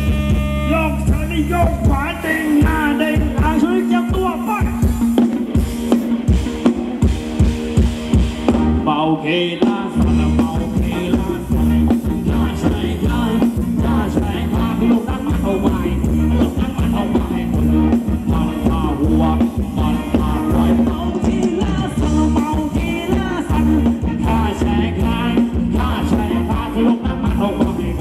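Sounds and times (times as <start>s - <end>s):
steady drum beat: 0.0s - 8.9s, 9.6s - 28.0s
heavy bass line: 0.0s - 28.0s
live band dance music: 0.0s - 28.0s.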